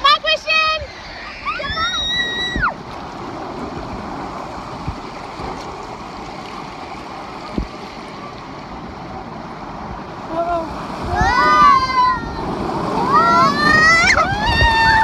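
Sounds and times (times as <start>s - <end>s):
water rushing over rocks: 1.0s - 15.0s.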